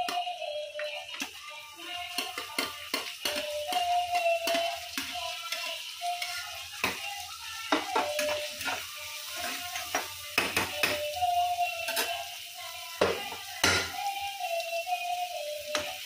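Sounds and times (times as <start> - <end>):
light frying sizzle: 0.0 - 16.0.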